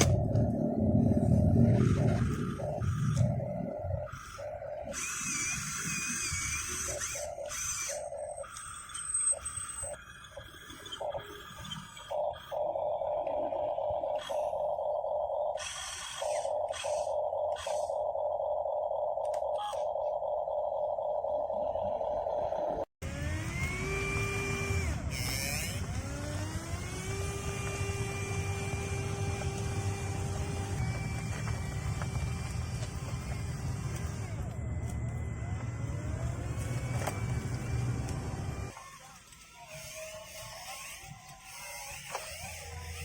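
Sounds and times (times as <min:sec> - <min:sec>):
toy gear motors whirring: 0:00.5 - 0:20.5, 0:23.0 - 0:43.0.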